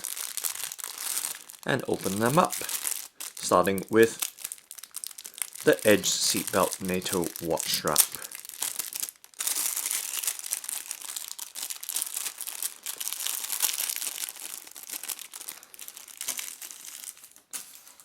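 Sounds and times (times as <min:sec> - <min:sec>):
packet crinkling: 0:00.0 - 0:18.0.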